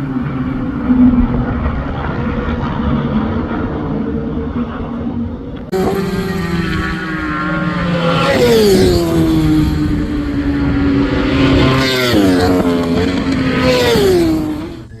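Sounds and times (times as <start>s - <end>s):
racing motorcycle engine passing: 0.0s - 15.0s.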